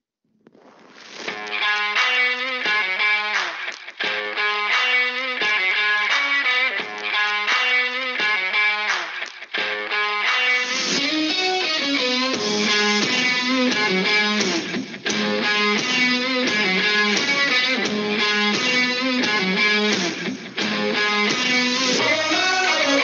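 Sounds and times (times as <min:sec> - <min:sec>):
upbeat electric guitar music: 0:01.3 - 0:23.0.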